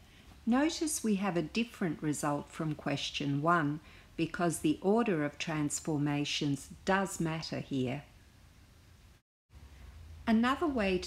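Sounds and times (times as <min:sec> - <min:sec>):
faint recording hiss and hum: 0:00.0 - 0:11.0.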